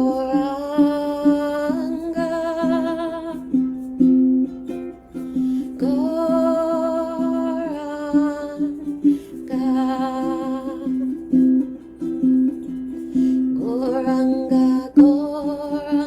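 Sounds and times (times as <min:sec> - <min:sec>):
strummed stringed instrument: 0:00.0 - 0:16.0.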